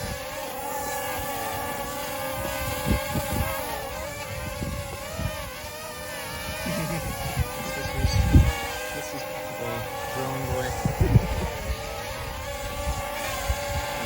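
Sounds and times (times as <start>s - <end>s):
drone propellers buzzing: 0.0s - 14.0s
wind buffeting microphone: 1.0s - 14.0s.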